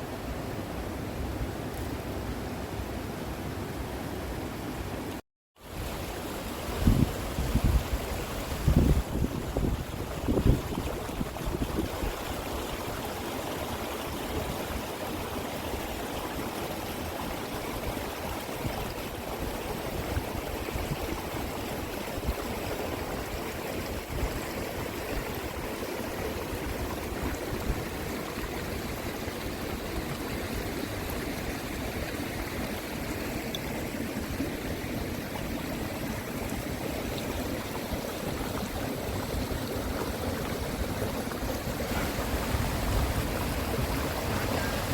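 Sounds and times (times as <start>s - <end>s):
stream flowing over rocks: 0.0s - 44.9s.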